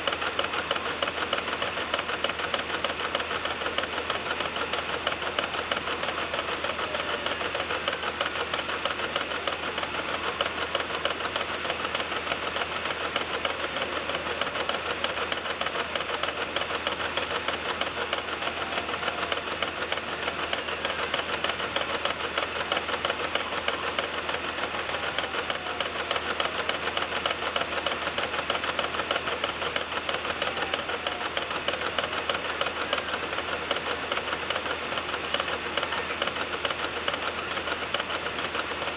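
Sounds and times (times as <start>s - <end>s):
disc spinning whine: 0.0s - 38.9s
dvd drive clicking: 0.0s - 38.9s.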